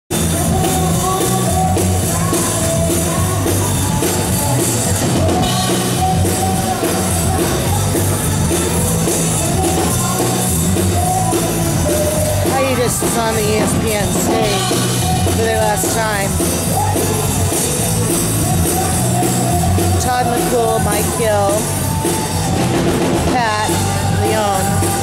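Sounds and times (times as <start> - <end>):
repeating bass line: 0.1 - 25.0
rock band playing live: 0.1 - 25.0.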